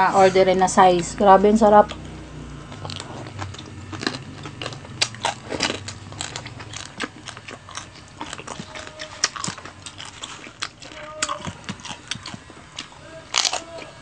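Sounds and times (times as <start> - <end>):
crunching crispy skin: 1.8 - 14.0.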